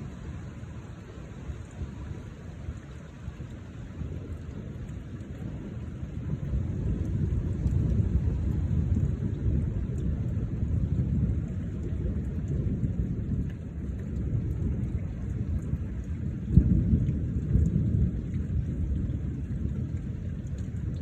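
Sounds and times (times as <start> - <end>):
rain falling: 0.0 - 21.0
thunder rumbling: 0.0 - 21.0.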